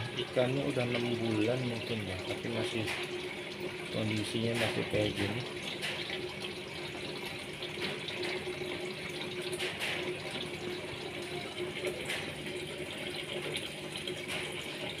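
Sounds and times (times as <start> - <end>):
faint pump hum: 0.0 - 15.0
water trickling and splashing: 0.0 - 15.0.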